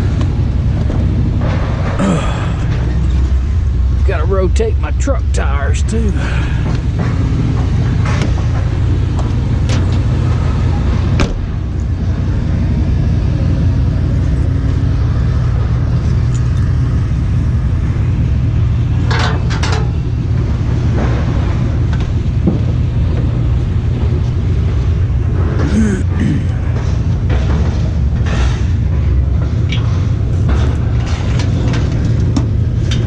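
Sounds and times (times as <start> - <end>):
truck driving rumble inside cab: 0.0 - 33.0.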